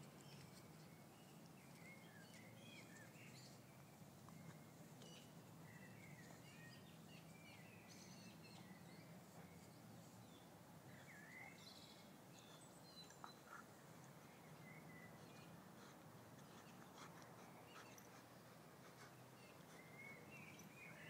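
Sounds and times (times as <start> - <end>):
faint bird chirps: 0.1 - 21.0.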